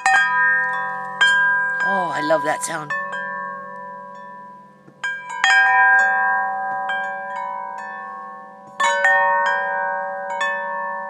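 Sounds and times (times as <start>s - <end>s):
metal chimes ringing: 0.0s - 10.9s.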